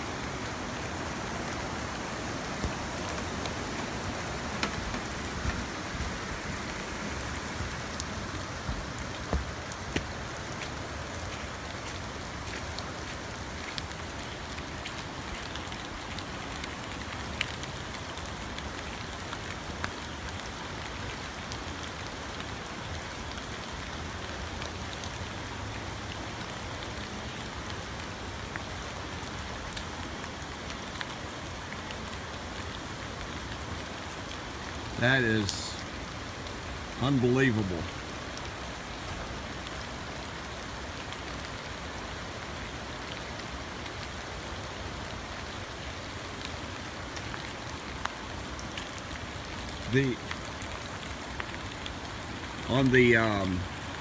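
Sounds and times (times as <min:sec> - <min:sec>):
rain hissing: 0:00.0 - 0:24.9, 0:30.8 - 0:54.0.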